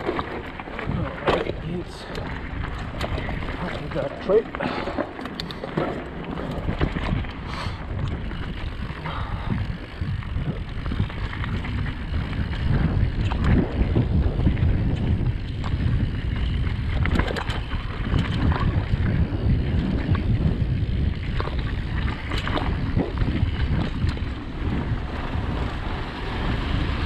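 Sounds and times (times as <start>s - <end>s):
bike rattling over rough trail: 0.0s - 27.0s
wind buffeting microphone: 0.0s - 27.0s.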